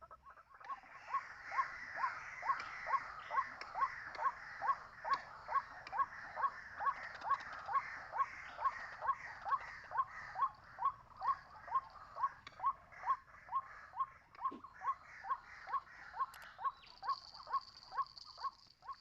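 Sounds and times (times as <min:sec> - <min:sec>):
waterhen calling kwak notes: 0:00.0 - 0:19.0.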